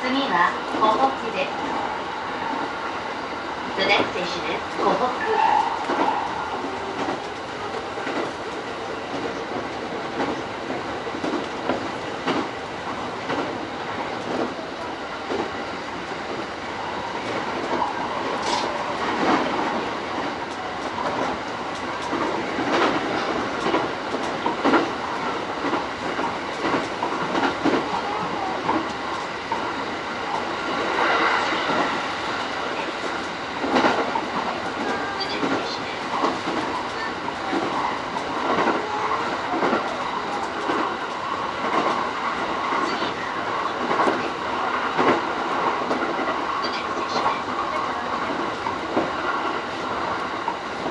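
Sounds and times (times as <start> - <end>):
train running noise: 0.0 - 50.9.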